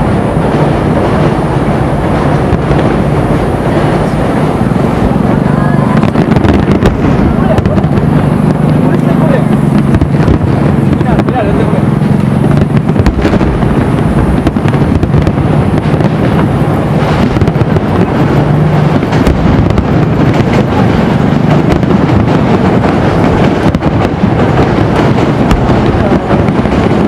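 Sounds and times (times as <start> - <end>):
fireworks cracking and banging: 0.0 - 27.0.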